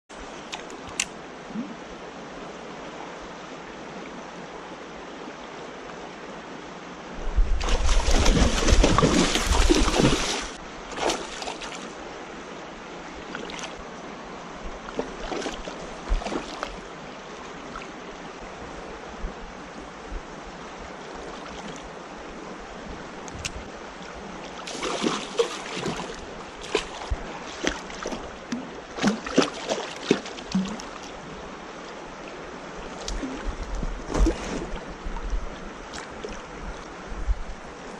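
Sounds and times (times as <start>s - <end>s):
wind: 0.0s - 37.9s
water noise: 0.1s - 37.9s.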